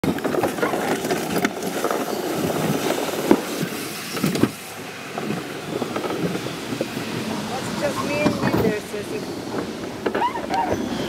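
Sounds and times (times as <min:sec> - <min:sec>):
sled scraping along concrete track: 0:00.0 - 0:11.0.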